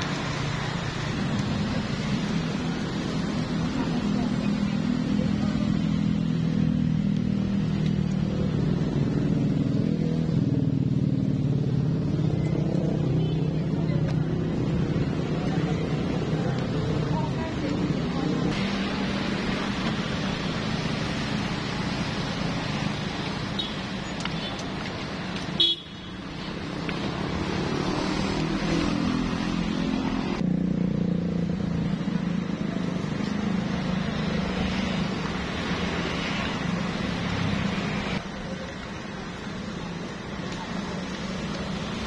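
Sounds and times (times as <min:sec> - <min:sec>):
road traffic engine drone: 0:00.0 - 0:42.0.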